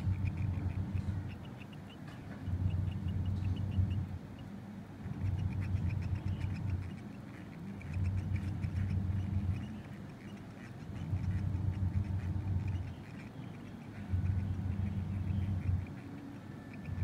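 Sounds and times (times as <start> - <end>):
hamster chewing clicks: 0.0 - 17.0
low hum: 0.0 - 17.0.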